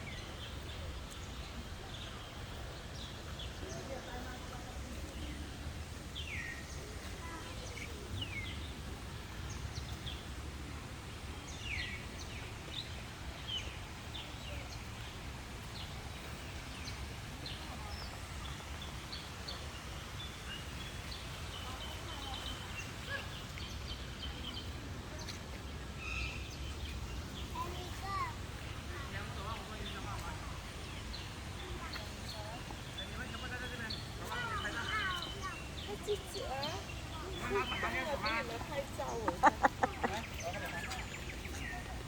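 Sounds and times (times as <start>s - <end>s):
birds chirping: 0.0s - 10.4s, 11.0s - 42.0s.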